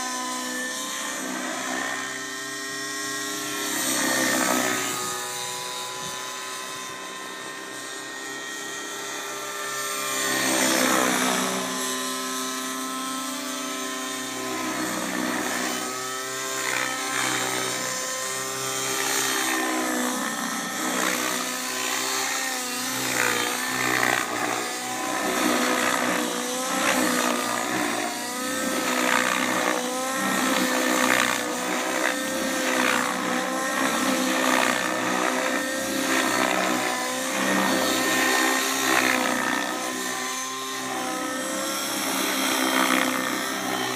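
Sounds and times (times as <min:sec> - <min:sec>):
model helicopter engine and rotors: 0:00.0 - 0:43.9.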